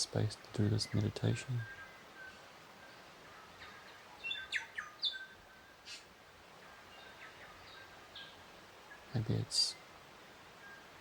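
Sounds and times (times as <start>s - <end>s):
faint outdoor background: 0.0s - 11.0s
songbirds chirping: 0.0s - 11.0s.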